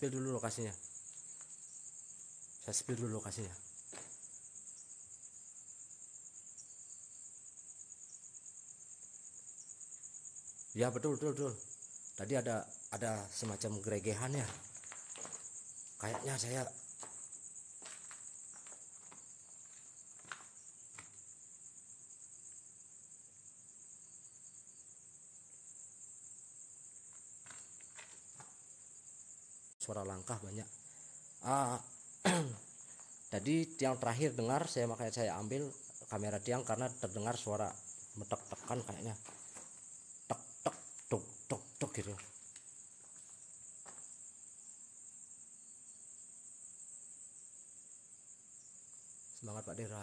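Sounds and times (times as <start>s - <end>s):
crickets chirring: 0.0s - 50.0s
insects chorus: 0.0s - 50.0s.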